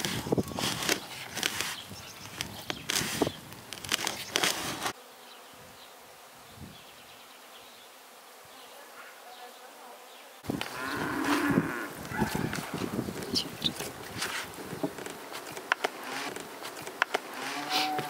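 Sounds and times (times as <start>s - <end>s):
insect buzzing: 0.0s - 18.0s
outdoor ambience: 0.0s - 18.0s.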